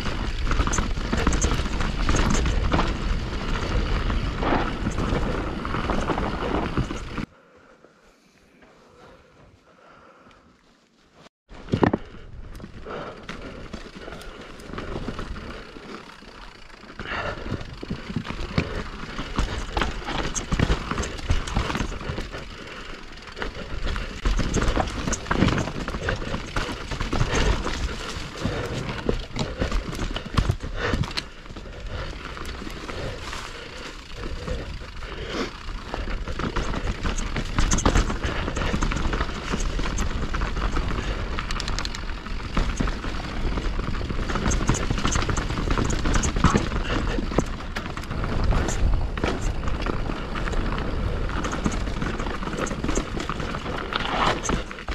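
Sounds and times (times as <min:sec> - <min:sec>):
bike clattering over rocks: 0:00.0 - 0:07.2, 0:11.6 - 0:54.9.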